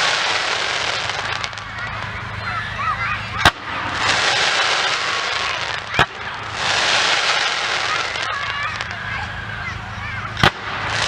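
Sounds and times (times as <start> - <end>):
firework bangs: 0.0 - 11.0
fireworks crackling hiss: 0.0 - 11.0.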